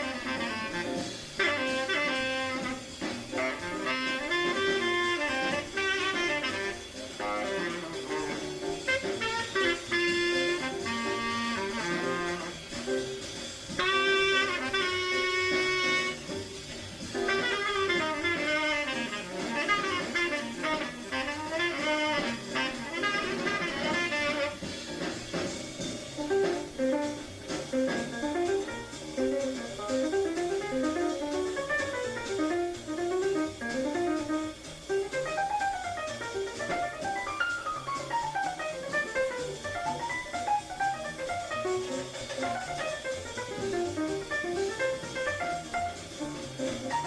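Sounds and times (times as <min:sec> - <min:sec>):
bass: 0:00.0 - 0:47.0
drums: 0:00.0 - 0:47.0
saxophone melody: 0:00.0 - 0:47.0.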